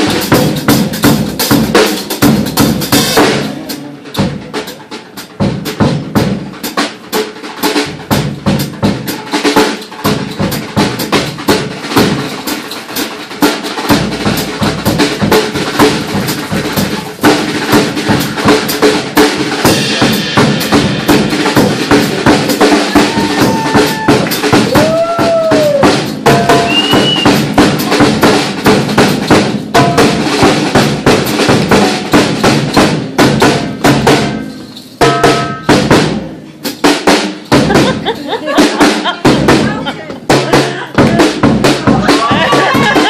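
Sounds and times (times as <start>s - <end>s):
drum kit driving rhythm: 0.0s - 43.0s
hand drums: 0.0s - 43.0s.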